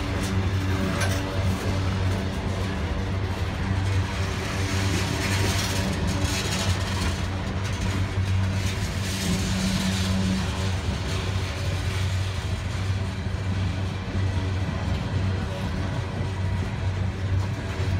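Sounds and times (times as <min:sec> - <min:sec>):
diesel locomotive engine drone: 0:00.0 - 0:17.9
freight train rushing noise: 0:00.0 - 0:17.9.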